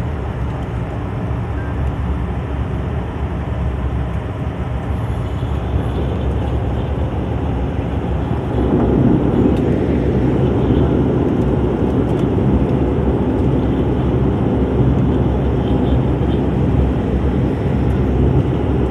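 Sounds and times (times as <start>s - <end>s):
airliner cabin engine rumble: 0.0s - 18.9s.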